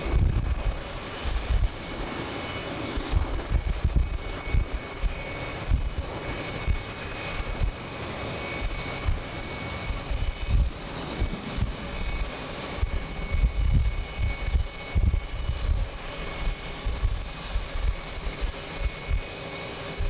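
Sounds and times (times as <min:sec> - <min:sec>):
jet engines whining: 0:00.0 - 0:20.0
wind buffeting microphone: 0:00.0 - 0:20.0.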